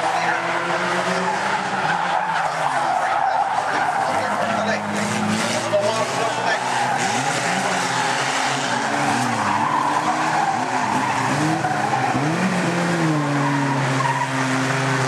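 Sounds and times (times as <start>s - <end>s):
racing car engines revving: 0.0s - 15.0s
tyres skidding: 0.0s - 15.0s.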